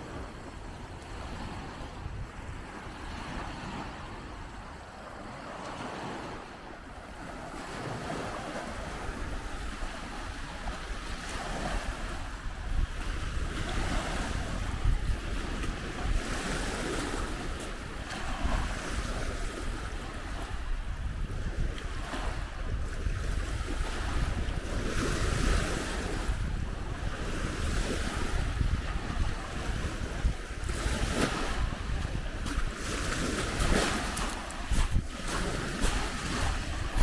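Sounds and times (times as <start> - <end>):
small waves breaking on beach: 0.0 - 37.0
wind rumbling on microphone: 0.0 - 37.0.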